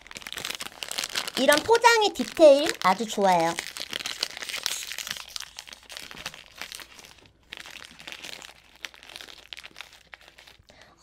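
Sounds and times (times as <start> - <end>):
foil wrapper crinkling: 0.0 - 10.8.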